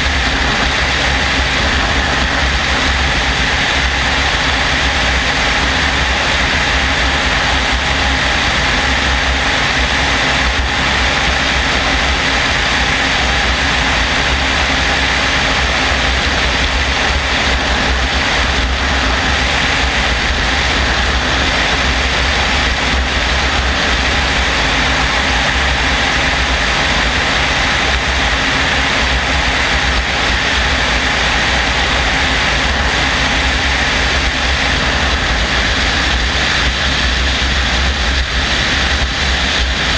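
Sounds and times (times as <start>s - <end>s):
helicopter rotor and engine: 0.0s - 39.9s
wind on microphone: 0.0s - 39.9s.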